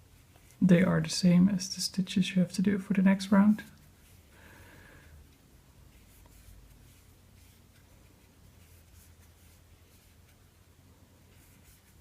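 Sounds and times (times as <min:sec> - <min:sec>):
yarn rustling with crochet hook: 0:00.0 - 0:01.8, 0:03.2 - 0:04.4, 0:05.2 - 0:12.0.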